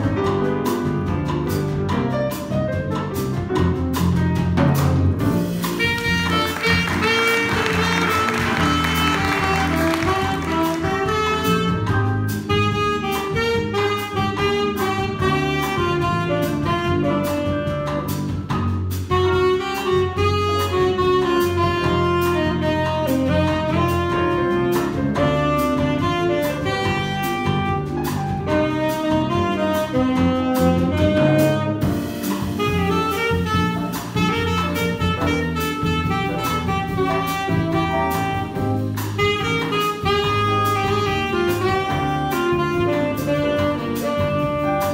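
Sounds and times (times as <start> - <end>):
jazz combo playing bossa nova: 0.0 - 44.9
saxophone solo: 5.6 - 18.3, 19.0 - 44.9.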